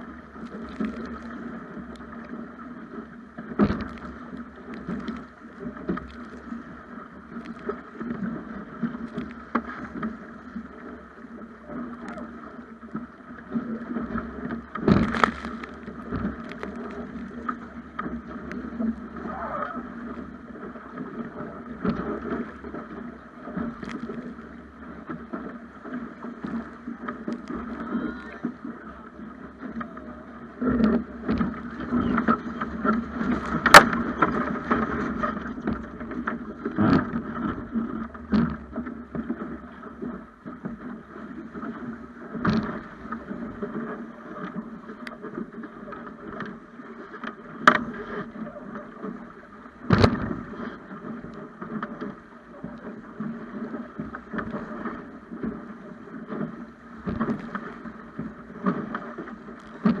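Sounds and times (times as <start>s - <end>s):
water rushing along hull: 0.0s - 60.0s.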